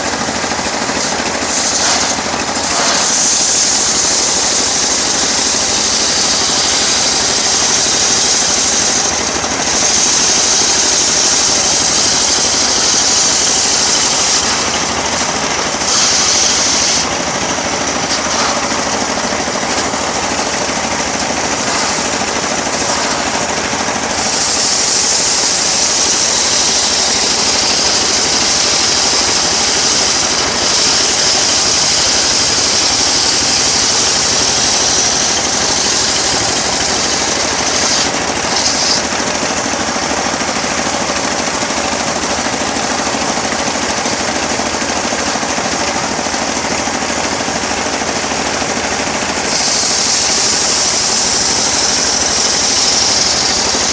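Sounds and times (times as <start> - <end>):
saw blade cutting wood: 0.0 - 53.9
sawmill engine running: 0.0 - 53.9.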